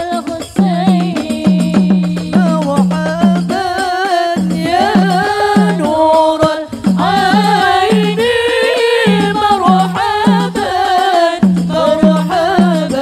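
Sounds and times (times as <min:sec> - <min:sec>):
drum beat: 0:00.0 - 0:13.0
women singing through a pa: 0:00.0 - 0:13.0.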